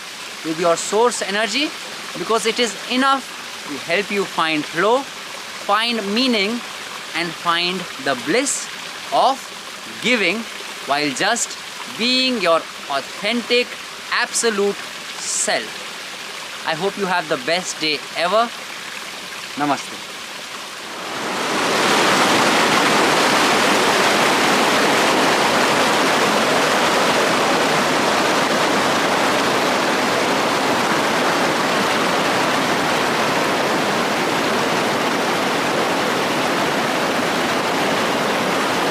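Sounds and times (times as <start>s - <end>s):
small waterfall pouring: 0.0s - 38.9s.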